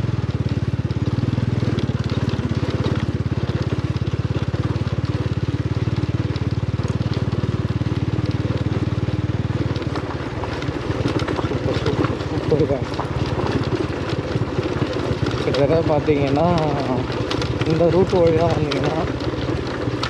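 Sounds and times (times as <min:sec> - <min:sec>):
motorcycle engine running: 0:00.0 - 0:20.0
stones crackling under tyres: 0:00.0 - 0:20.0.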